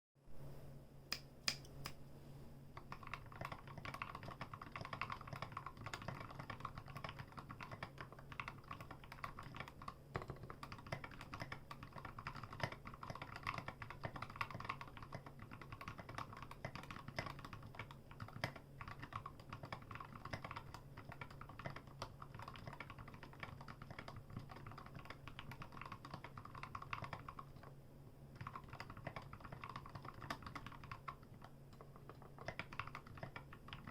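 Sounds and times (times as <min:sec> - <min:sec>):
fast typing on mechanical keyboard: 0:02.8 - 0:33.9.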